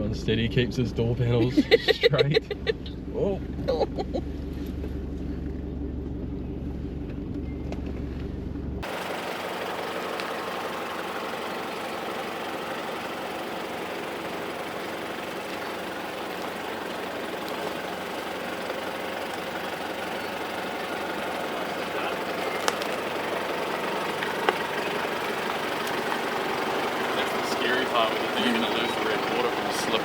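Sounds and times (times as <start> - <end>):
vehicle engine at low revs: 0.0 - 30.0.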